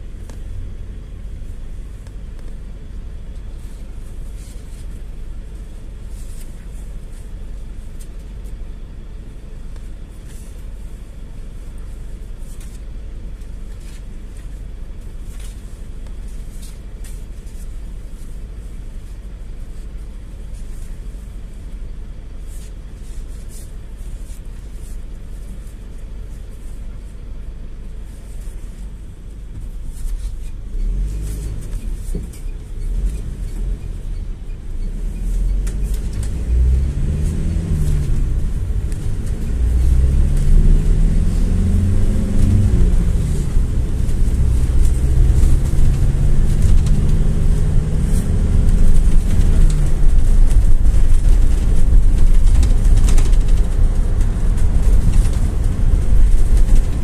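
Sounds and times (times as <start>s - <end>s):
minibus rumble from inside: 0.0s - 57.0s.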